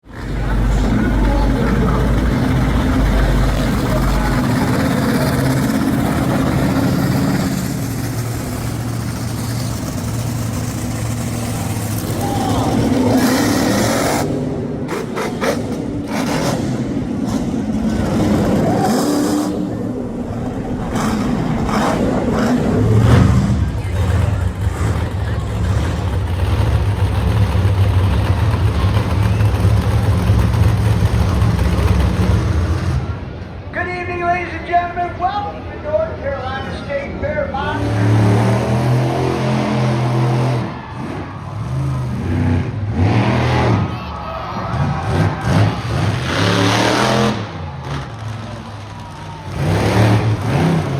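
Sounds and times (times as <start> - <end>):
truck engine revving: 0.0 - 33.7, 37.1 - 50.9.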